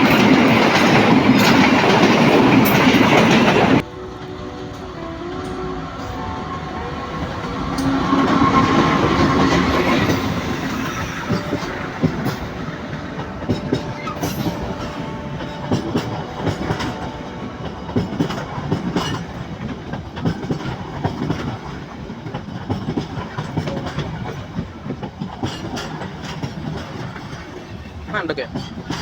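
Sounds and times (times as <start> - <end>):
wheels clicking over rail joints: 0.0 - 6.2, 7.2 - 29.0
train rumbling past: 0.0 - 29.0.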